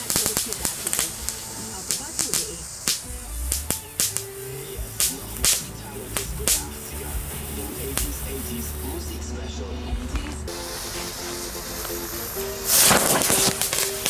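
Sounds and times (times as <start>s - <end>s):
firework fountain crackling pops: 0.0s - 9.2s, 9.9s - 14.0s
hiss of sparks: 0.0s - 9.3s, 10.2s - 14.0s.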